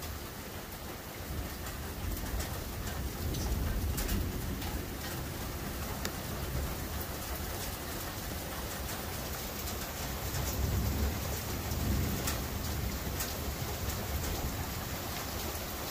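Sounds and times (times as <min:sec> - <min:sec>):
raindrops ticking close by: 0:00.0 - 0:15.9
steady rain: 0:00.0 - 0:15.9
low thunder rumble: 0:01.3 - 0:08.5, 0:10.0 - 0:15.6.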